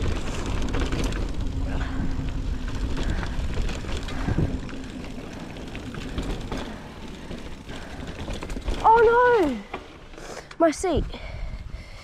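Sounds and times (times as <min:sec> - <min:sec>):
wind buffeting microphone: 0:00.0 - 0:09.6
bike knocks and rattles: 0:00.0 - 0:10.6.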